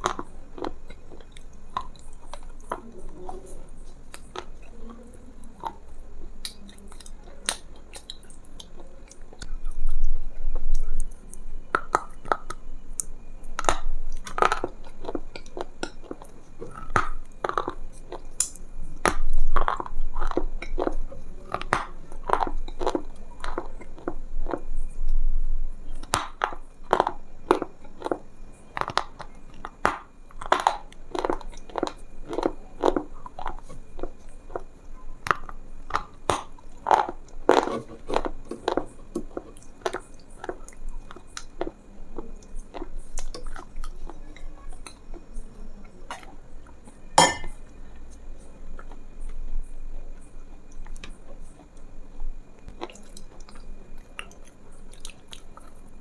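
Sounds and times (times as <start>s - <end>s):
chewing crunchy food: 0.0s - 56.0s.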